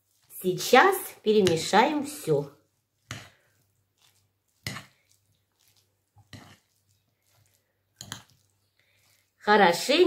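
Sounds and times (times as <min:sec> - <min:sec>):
spoon stirring salad in bowl: 0:00.0 - 0:09.5.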